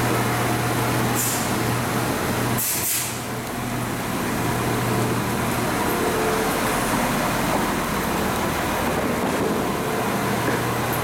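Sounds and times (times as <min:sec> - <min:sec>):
diesel engines idling: 0:00.0 - 0:11.0.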